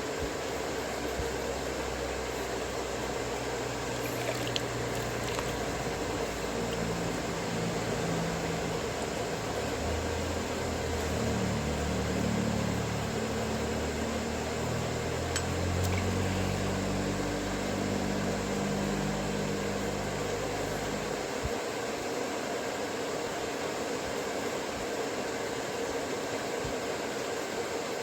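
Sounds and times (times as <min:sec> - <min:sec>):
mechanical hum with hiss: 0:00.0 - 0:28.0.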